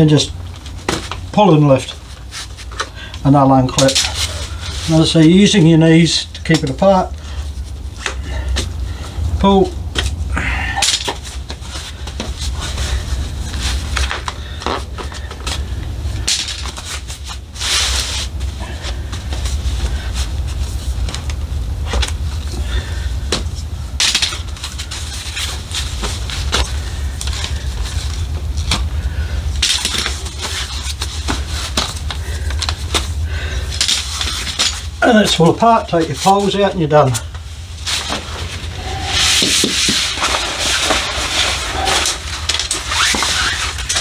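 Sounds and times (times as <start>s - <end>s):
steady low rumble: 0.0s - 44.0s
fabric rustling: 0.4s - 8.5s, 11.1s - 44.0s.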